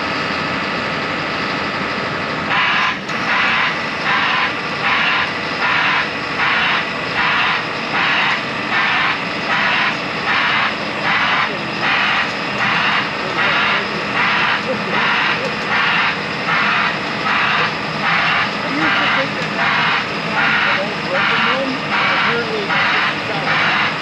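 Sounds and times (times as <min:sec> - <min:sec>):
diesel engine running: 0:00.0 - 0:24.0
hissing backup alarm pulsing: 0:00.0 - 0:24.0.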